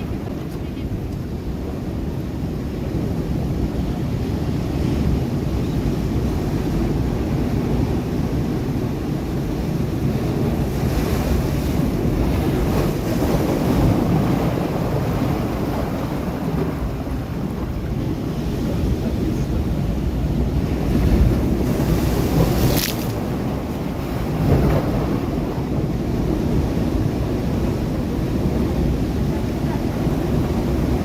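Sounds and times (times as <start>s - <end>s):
sea waves breaking against rocks: 0.0s - 31.0s.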